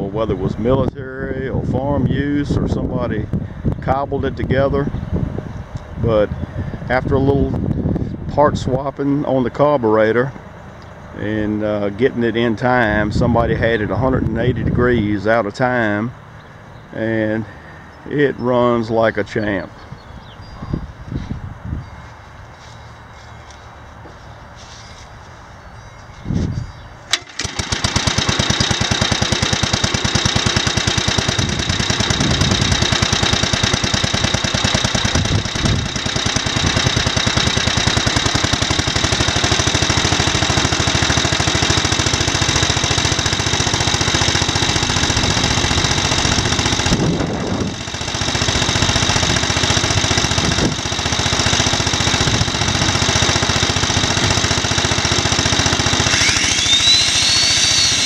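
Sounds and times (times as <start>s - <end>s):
engine driving a generator: 0.0s - 58.0s.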